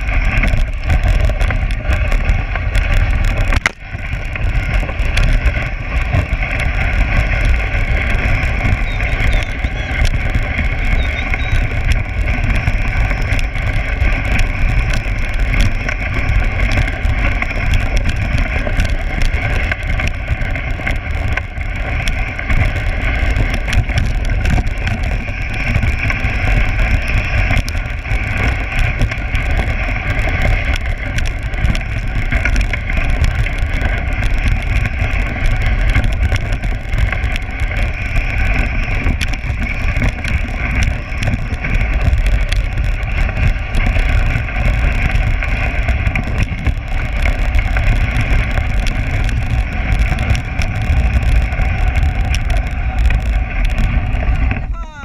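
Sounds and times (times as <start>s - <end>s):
sled runners hissing on snow: 0.0s - 54.5s
wind on microphone: 0.0s - 55.0s.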